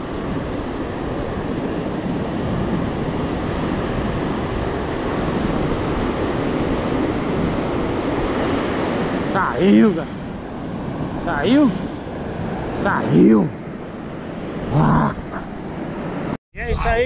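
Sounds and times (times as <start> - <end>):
surf washing onto beach: 0.0 - 14.8
wind on microphone: 0.0 - 17.0.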